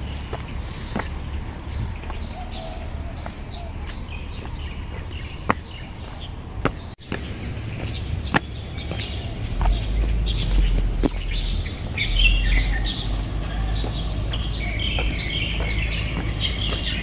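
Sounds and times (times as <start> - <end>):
songbirds chirping: 0.0 - 17.0
steady low rumble: 0.0 - 17.0.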